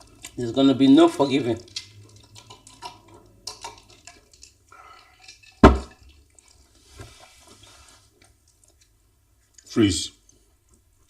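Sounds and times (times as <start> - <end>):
wet eating sounds: 0.0 - 11.0.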